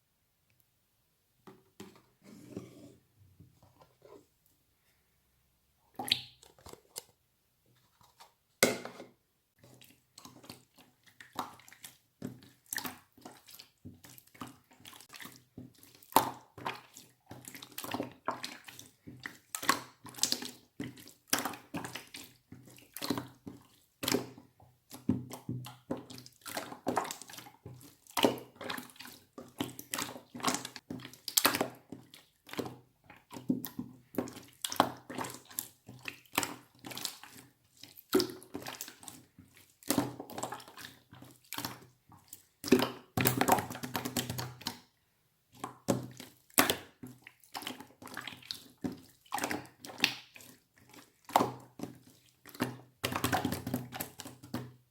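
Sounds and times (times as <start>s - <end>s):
wet squishing of slime: 5.9s - 9.0s, 9.6s - 54.9s.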